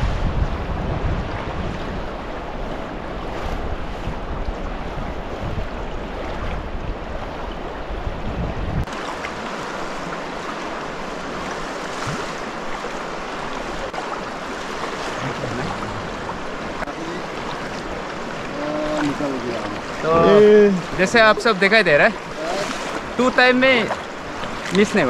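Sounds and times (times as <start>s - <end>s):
wind buffeting microphone: 0.0s - 21.6s
river water rushing: 0.0s - 25.0s.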